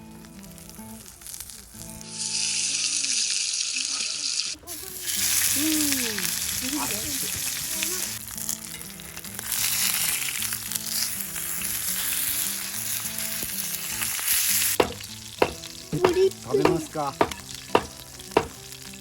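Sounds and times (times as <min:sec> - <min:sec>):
food sizzling on a griddle: 0:00.0 - 0:19.0.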